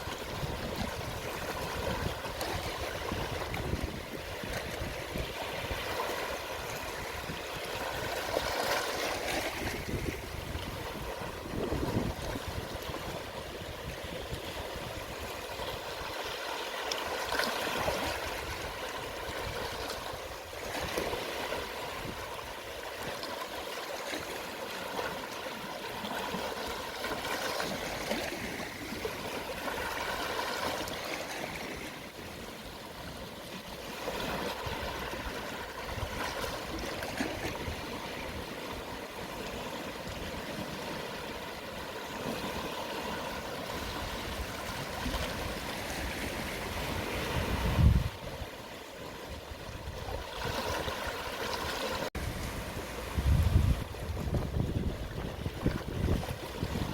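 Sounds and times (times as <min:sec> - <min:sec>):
gentle sea waves washing: 0:00.0 - 0:56.9.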